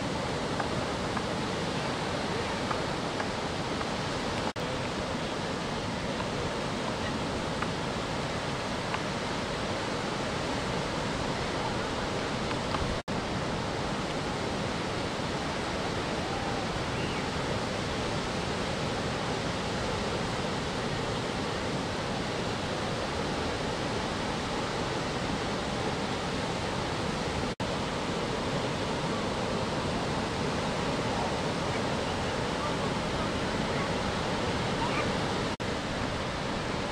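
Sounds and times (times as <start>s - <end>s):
ocean surf breaking: 0.0s - 36.9s.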